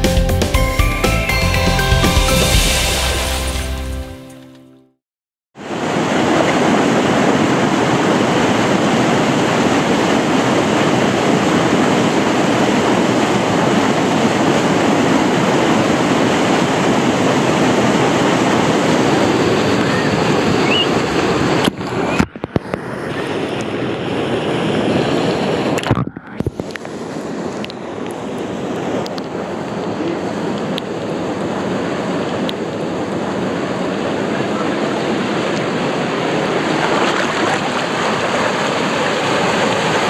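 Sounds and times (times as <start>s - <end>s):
whitewater rushing: 5.6s - 25.8s, 26.6s - 40.0s.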